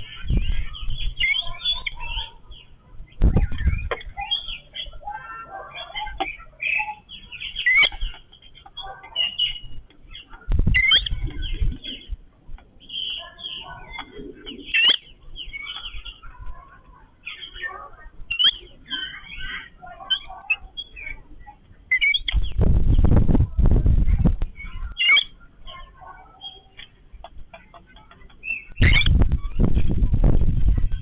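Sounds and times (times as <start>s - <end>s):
birds chattering and chirping: 0.0s - 31.0s.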